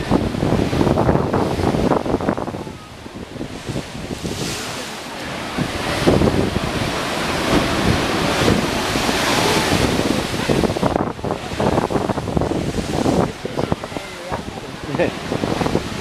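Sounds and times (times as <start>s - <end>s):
sea surf crashing: 0.0s - 16.0s
wind buffeting microphone: 0.0s - 16.0s.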